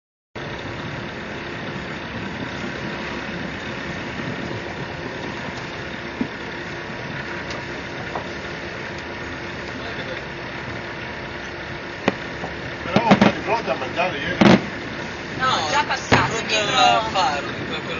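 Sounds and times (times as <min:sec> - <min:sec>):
engine humming: 0:00.4 - 0:17.9.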